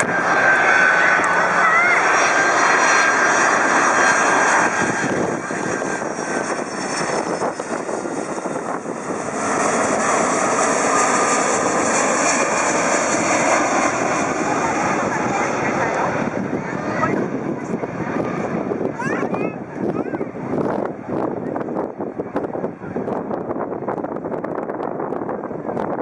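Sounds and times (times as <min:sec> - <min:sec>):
jet airliner engines roaring: 0:00.0 - 0:26.0.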